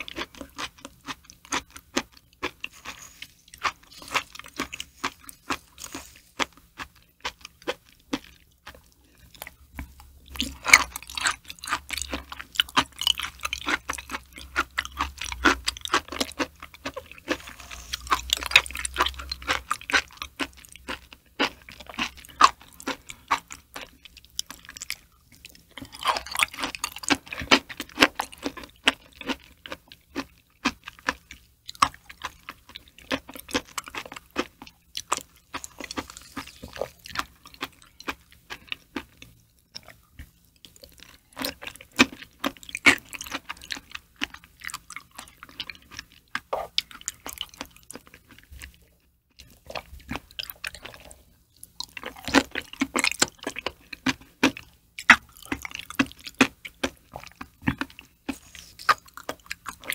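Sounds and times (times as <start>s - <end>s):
wet chewing and lip-smacking: 0.0s - 59.9s.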